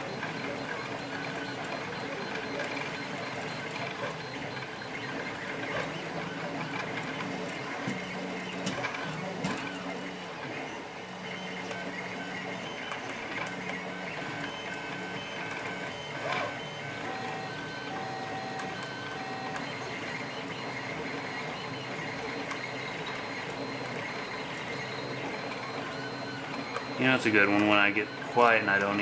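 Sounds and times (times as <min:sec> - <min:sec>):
printer motors whining: 0:00.0 - 0:29.0.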